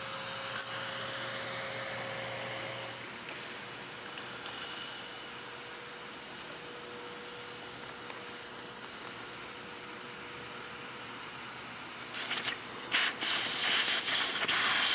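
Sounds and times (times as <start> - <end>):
vacuum cleaner running: 0.0 - 14.9.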